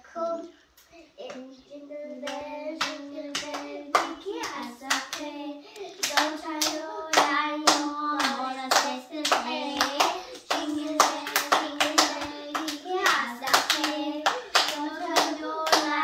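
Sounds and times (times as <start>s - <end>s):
hands clapping: 2.2s - 5.3s, 6.0s - 16.0s.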